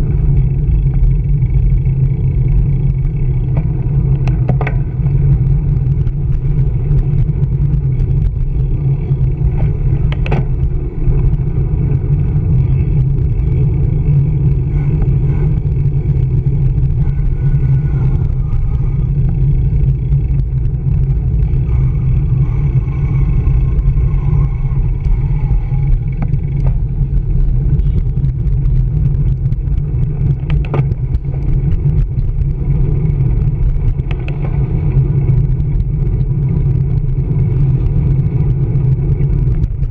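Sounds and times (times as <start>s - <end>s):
city street traffic: 0.0s - 39.9s
wind buffeting camera: 0.0s - 39.9s.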